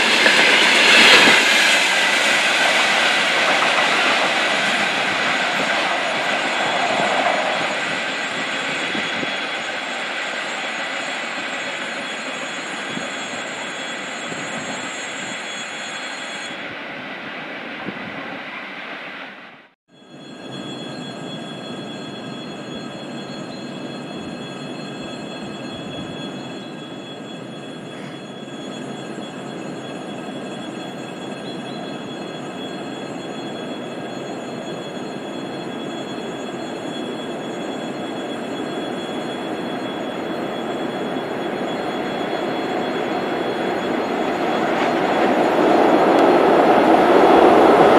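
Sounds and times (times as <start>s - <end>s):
train rumbling with whining tones: 0.0s - 47.9s.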